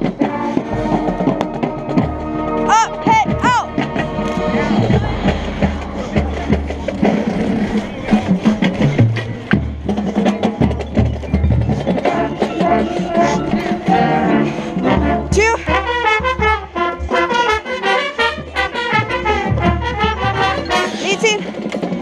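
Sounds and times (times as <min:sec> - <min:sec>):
low bass notes: 0:00.0 - 0:21.2
drum and percussion hits: 0:00.0 - 0:22.0
marching band music: 0:00.0 - 0:22.0
held pitched notes: 0:00.6 - 0:21.4.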